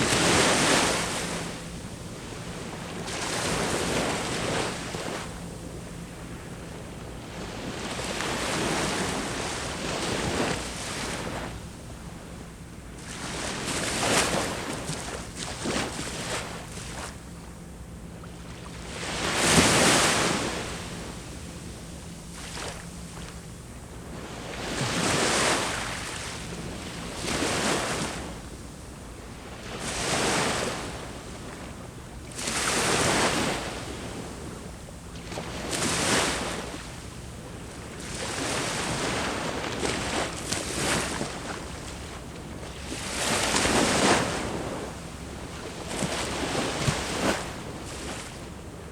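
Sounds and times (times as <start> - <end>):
sea waves breaking on shore: 0.0 - 17.2, 18.2 - 48.9.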